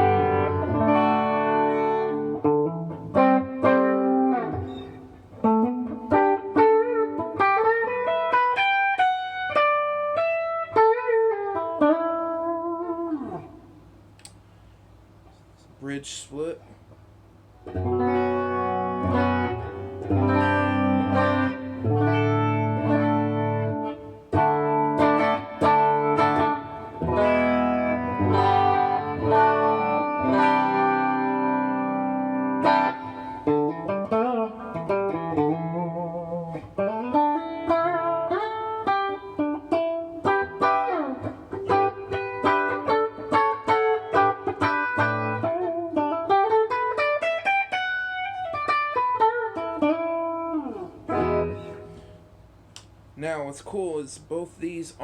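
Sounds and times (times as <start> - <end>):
clean electric guitar: 0.0 - 14.6, 16.6 - 53.2.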